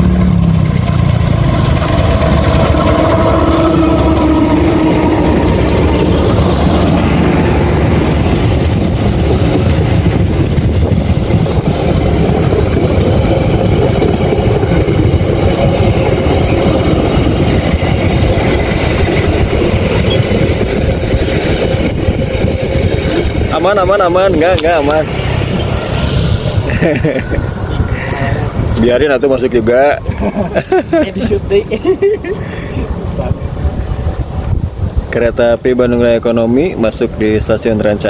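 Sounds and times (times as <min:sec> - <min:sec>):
diesel locomotive engine passing: 0:00.0 - 0:38.0
train wheels rumbling on rail: 0:00.0 - 0:38.0.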